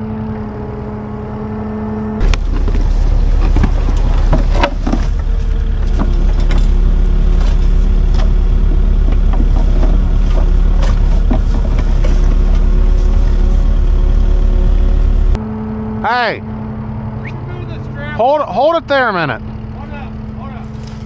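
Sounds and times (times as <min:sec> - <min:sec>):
diesel engine throbbing: 0:00.0 - 0:21.0.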